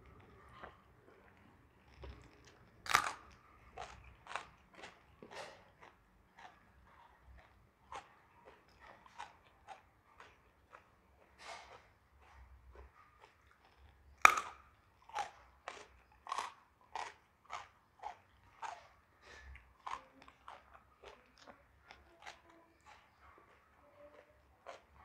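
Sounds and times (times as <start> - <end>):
crunchy chewing: 0.0 - 25.0.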